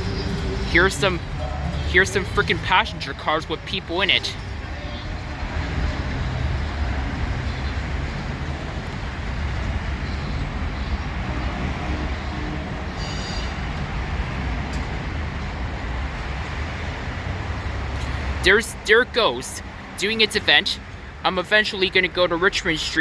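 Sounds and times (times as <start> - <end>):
train wheels rumbling on track: 0.0 - 18.4.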